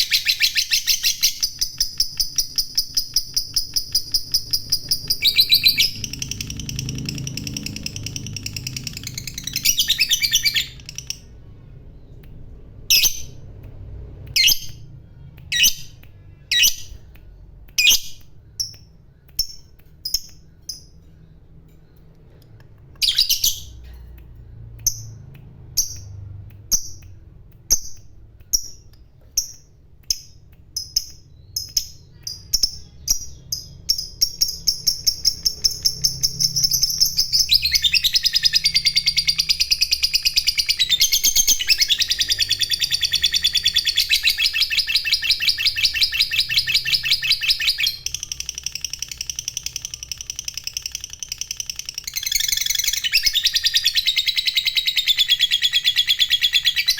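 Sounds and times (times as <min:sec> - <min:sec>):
lovebird chirping and trilling: 0:00.0 - 0:13.6, 0:14.2 - 0:17.1, 0:17.8 - 0:24.0, 0:24.8 - 0:56.9.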